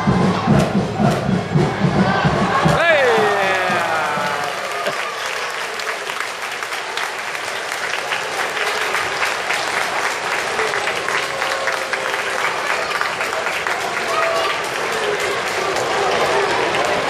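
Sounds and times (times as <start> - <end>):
stadium crowd clapping: 2.6 - 17.0.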